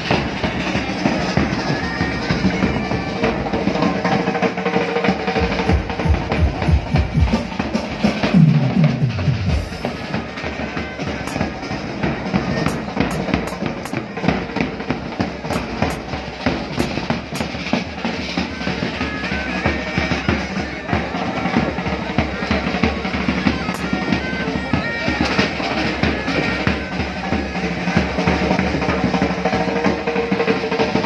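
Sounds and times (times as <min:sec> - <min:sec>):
low drum roll: 0:00.0 - 0:31.0
marching drums playing: 0:00.0 - 0:31.0.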